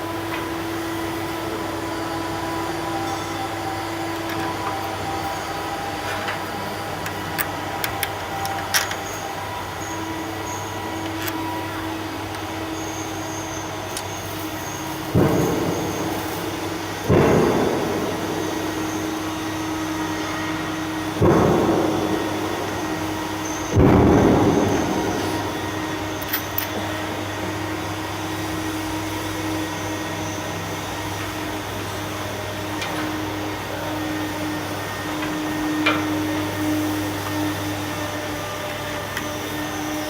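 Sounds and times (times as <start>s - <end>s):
wood crusher humming: 0.0s - 40.0s.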